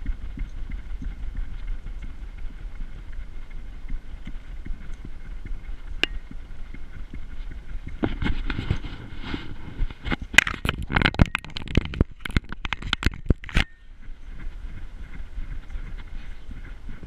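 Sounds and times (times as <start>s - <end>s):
low rumble: 0.0s - 10.4s, 13.3s - 17.0s.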